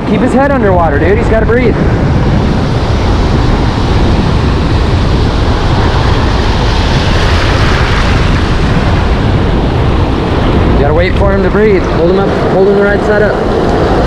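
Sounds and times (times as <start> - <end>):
breaking surf: 0.0 - 14.0
wind buffeting microphone: 0.0 - 14.0.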